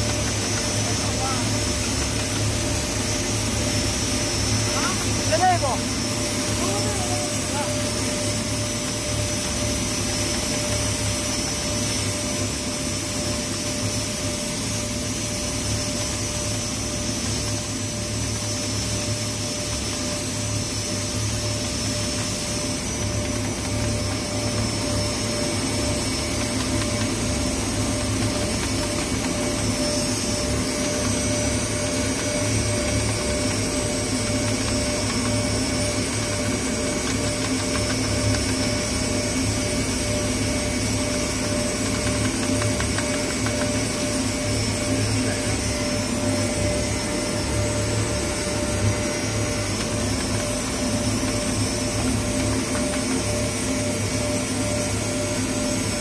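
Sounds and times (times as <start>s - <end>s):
grinding machine droning: 0.0s - 56.0s.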